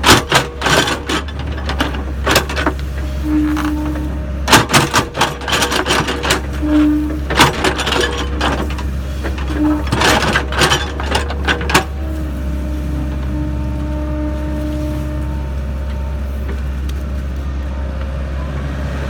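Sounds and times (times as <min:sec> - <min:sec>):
excavator clanks and knocks: 0:00.0 - 0:18.1
diesel engine running: 0:00.0 - 0:19.0.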